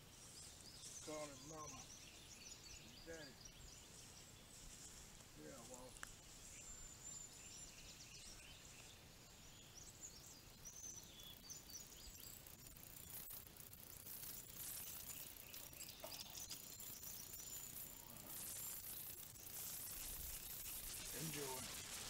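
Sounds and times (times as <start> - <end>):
quiet outdoor background noise: 0.0 - 22.0.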